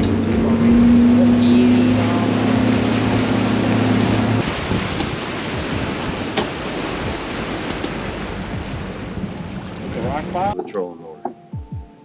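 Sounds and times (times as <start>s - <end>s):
wind on microphone: 0.0s - 10.6s
boat motor hum: 0.0s - 11.4s
water noise: 0.0s - 11.5s.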